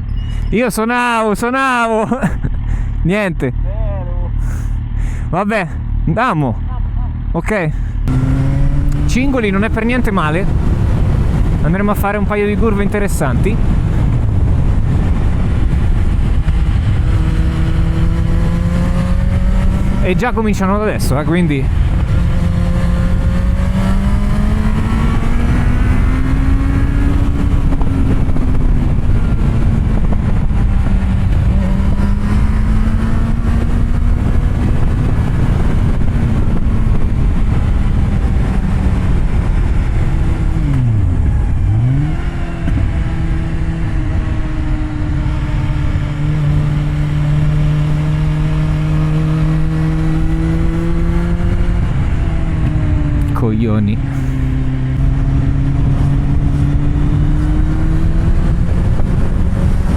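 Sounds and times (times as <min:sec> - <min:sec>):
motorcycle engine revving: 0:02.2 - 0:59.9.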